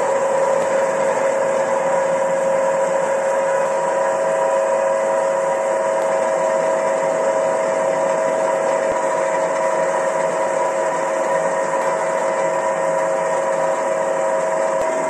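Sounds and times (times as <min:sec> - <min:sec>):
drill press motor hum and whine: 0:00.0 - 0:15.0.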